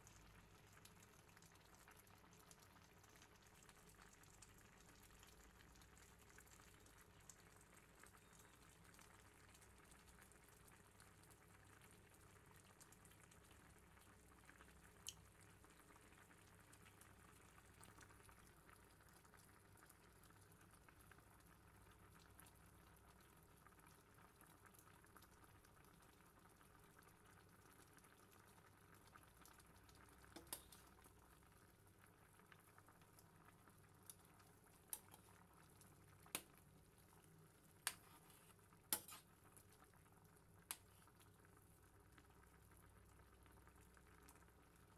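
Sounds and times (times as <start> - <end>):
broth bubbling in a pot: 0.0 - 44.9.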